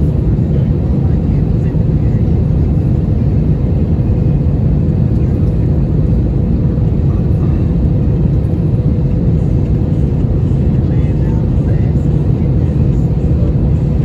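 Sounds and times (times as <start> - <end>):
airplane cabin engine rumble: 0.0 - 14.0.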